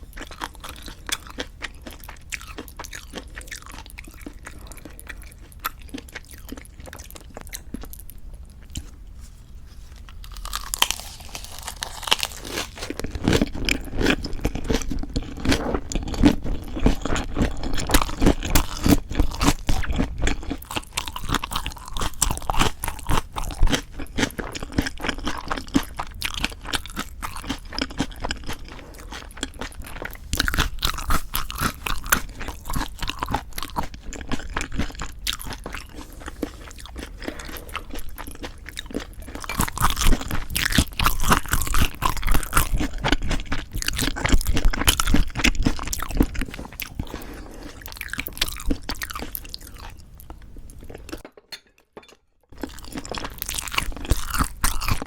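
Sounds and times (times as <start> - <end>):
close chewing and crunching: 0.0 - 51.3, 52.5 - 55.0.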